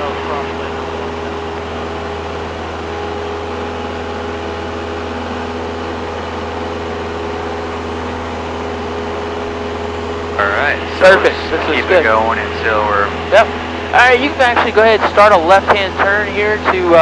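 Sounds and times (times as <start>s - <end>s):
plane engine and propeller droning: 0.0s - 17.0s.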